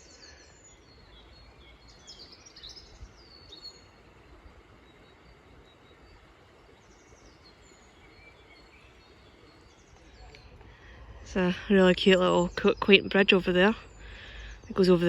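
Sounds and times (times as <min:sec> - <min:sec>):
faint outdoor background noise: 0:00.0 - 0:15.0
songbirds chirping: 0:00.0 - 0:15.0.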